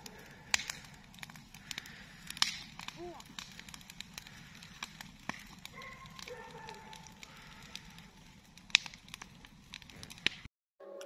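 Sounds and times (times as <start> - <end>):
bonfire crackling and popping: 0.0 - 10.5.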